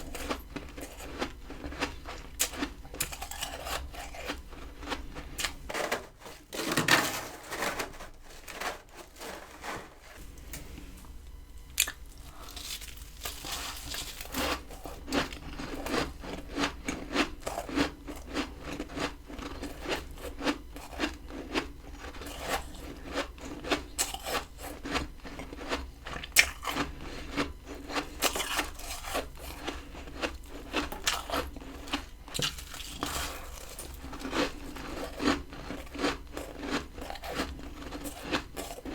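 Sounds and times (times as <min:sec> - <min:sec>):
ice being chewed: 0:00.0 - 0:05.8, 0:11.7 - 0:38.9.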